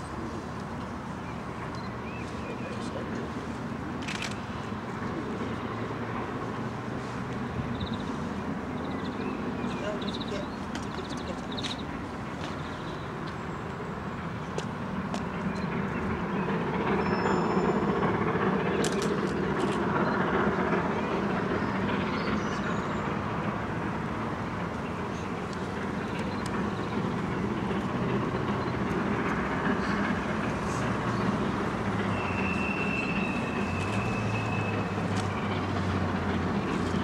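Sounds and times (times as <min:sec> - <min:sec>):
steam locomotive working uphill: 0:00.0 - 0:37.0.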